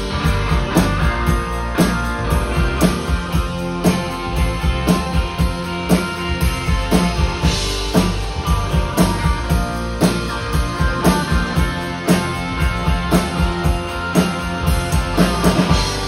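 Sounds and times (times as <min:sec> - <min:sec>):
drum kit beat: 0:00.0 - 0:16.0
rock band playing: 0:00.0 - 0:16.0.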